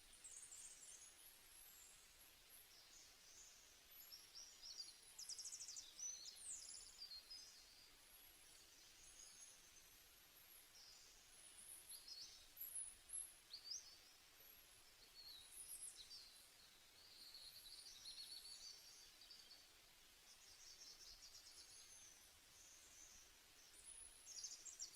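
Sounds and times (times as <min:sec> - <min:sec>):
quiet hiss: 0:00.0 - 0:24.9.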